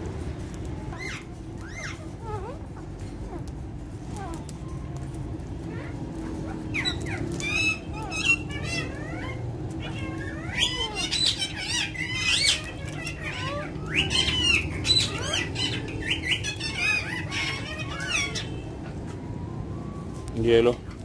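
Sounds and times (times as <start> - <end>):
parakeets whistling and squawking: 0.4 - 21.0.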